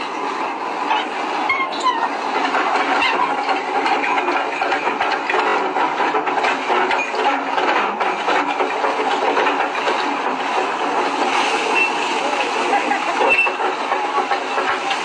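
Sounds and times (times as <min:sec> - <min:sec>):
deck winch clattering: 0:00.0 - 0:15.0
ship engine running: 0:00.0 - 0:15.0.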